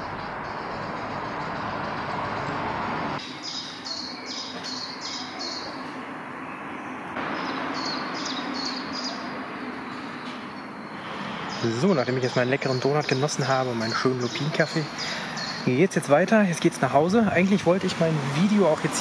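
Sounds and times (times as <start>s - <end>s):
steady outdoor background rush: 0.0s - 19.0s.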